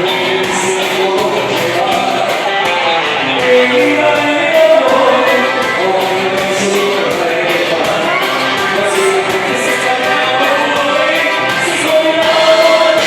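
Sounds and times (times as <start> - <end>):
guitar: 0.0 - 13.0
singing: 0.0 - 13.0
steady beat: 0.0 - 13.0.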